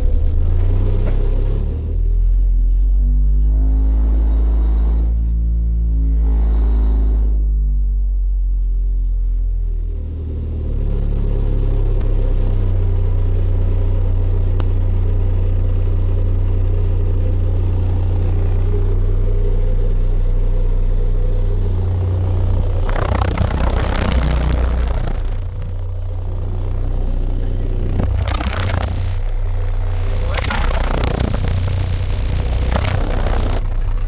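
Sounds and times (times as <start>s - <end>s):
rattling buzz: 0.0s - 34.0s
subwoofer low sine tone: 0.0s - 34.0s.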